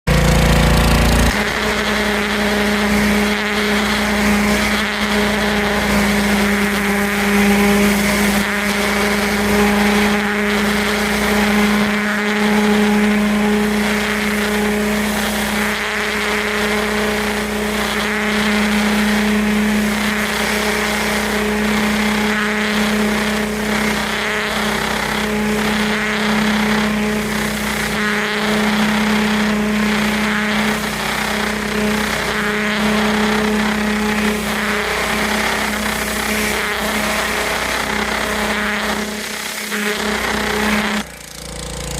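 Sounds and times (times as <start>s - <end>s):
pressure washer engine hum: 0.0s - 41.9s.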